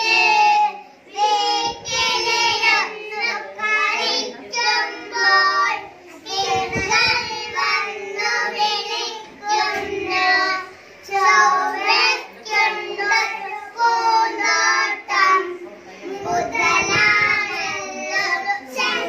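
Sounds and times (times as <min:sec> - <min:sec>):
boys singing into a microphone: 0:00.0 - 0:19.0.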